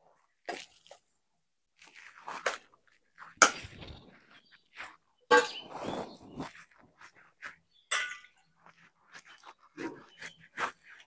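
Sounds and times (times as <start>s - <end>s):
dough scraping and leaf crinkling: 0.4s - 11.0s.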